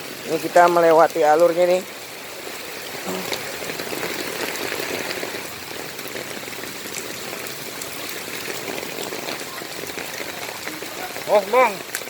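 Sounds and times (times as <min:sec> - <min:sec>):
falling rain: 0:00.0 - 0:12.0
running water: 0:00.0 - 0:12.0.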